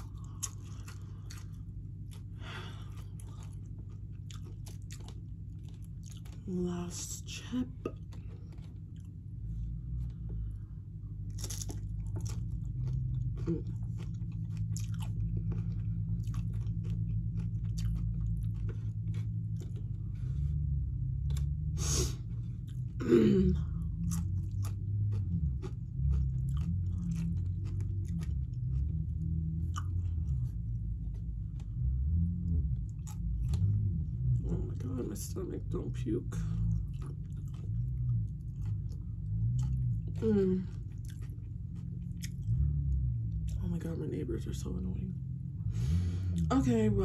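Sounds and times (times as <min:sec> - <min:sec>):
chewing and crunching nachos: 0:00.0 - 0:46.5.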